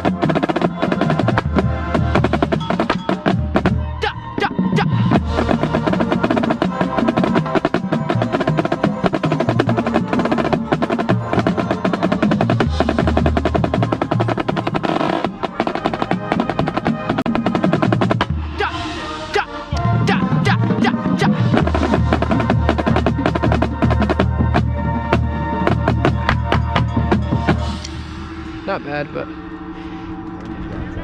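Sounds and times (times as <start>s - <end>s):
held pitched notes: 0.0s - 31.0s.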